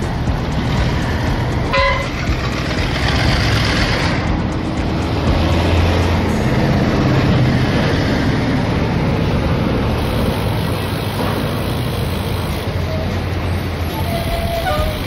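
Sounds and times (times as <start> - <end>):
road traffic rushing: 0.0 - 15.0
truck engine running: 0.0 - 15.0.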